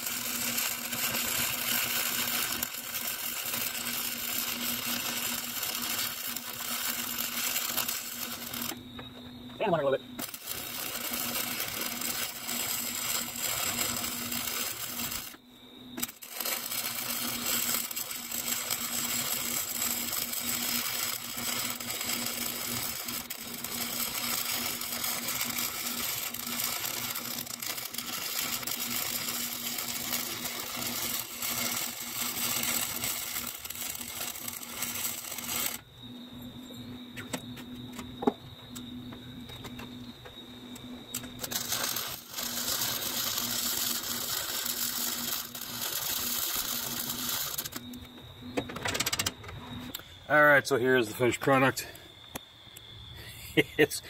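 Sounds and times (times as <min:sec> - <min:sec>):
welding arc crackling and sizzling: 0:00.0 - 0:54.0.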